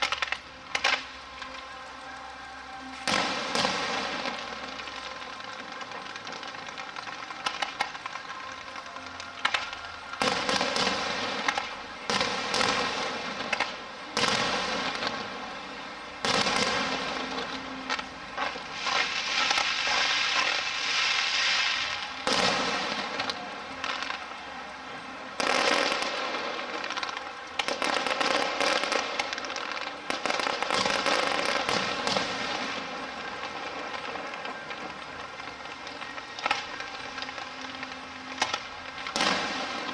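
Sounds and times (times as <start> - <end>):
fireworks bursting: 0.0 - 39.9
fireworks crackling: 0.0 - 39.9.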